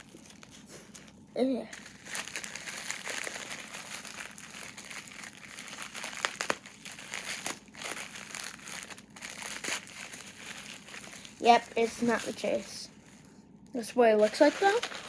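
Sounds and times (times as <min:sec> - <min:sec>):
plastic packaging crinkling: 0:00.0 - 0:13.2, 0:14.0 - 0:15.0.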